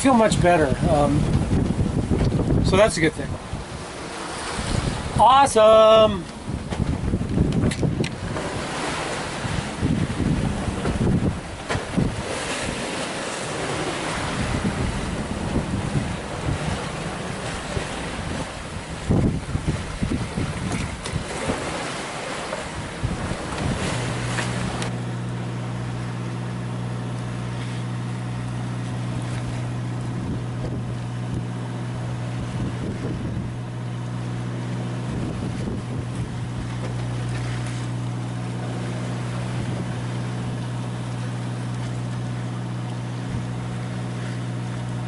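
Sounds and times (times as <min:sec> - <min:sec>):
wind buffeting microphone: 0:00.0 - 0:25.0, 0:27.0 - 0:41.4
boat motor drone: 0:00.0 - 0:45.0.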